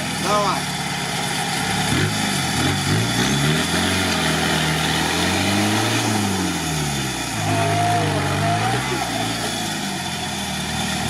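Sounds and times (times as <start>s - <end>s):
engine revving hard: 1.4s - 11.0s
tyres churning mud: 1.4s - 11.0s.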